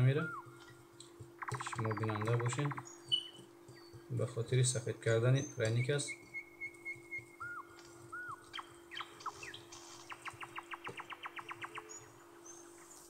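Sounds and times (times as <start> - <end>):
small bird chirping: 0.0 - 13.0
steady low hum: 0.0 - 13.0.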